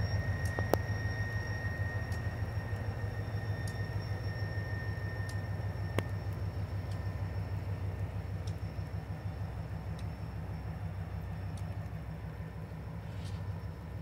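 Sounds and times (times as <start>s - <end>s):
distant diesel locomotive rumble: 0.0s - 14.0s
faint high whine: 0.0s - 14.0s.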